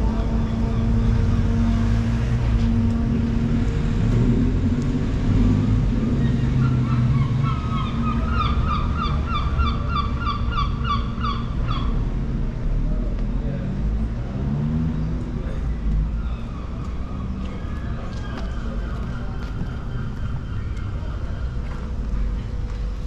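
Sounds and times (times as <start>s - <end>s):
low rumble of street traffic: 0.0s - 23.0s.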